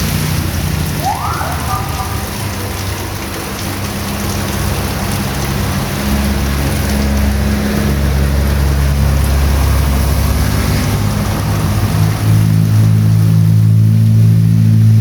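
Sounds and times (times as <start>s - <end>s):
heavy rain falling: 0.0s - 15.0s
vehicle engine hum: 0.0s - 15.0s.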